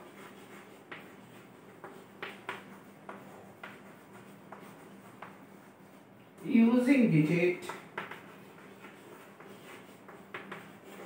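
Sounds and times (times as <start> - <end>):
chalk tapping on blackboard: 0.0 - 6.0, 7.6 - 11.0
chalk scratching on blackboard: 0.0 - 6.4, 7.6 - 11.0.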